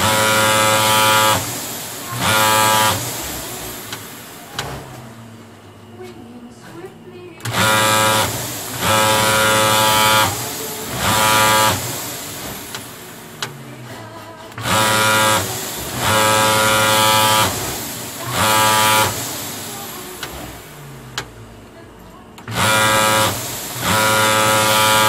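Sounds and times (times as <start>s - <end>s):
sewing machine motor whine: 0.0s - 25.0s.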